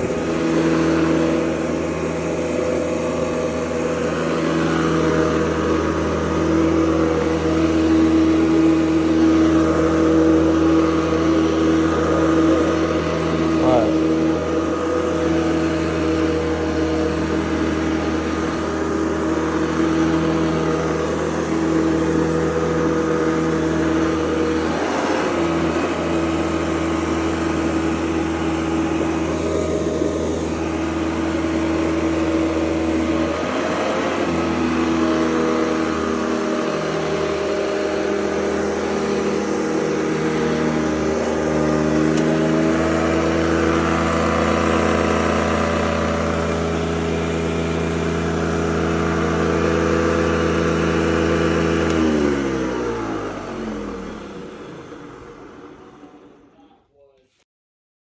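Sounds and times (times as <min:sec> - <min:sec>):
vacuum cleaner running: 0:00.0 - 0:56.6.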